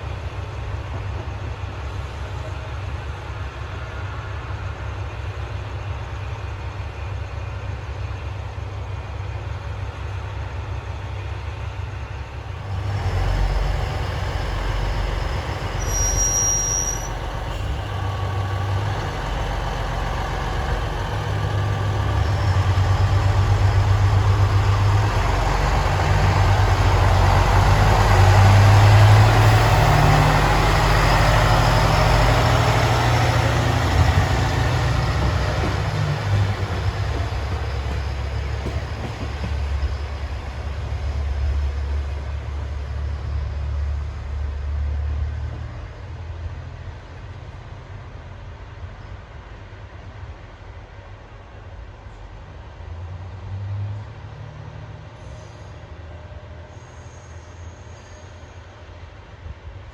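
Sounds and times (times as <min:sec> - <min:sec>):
railcar diesel engine running: 0:00.0 - 0:59.9
train running noise: 0:00.0 - 0:59.9.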